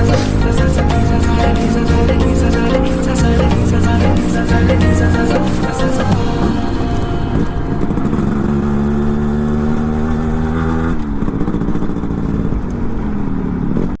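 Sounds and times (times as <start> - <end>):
engine running: 0.0 - 13.3.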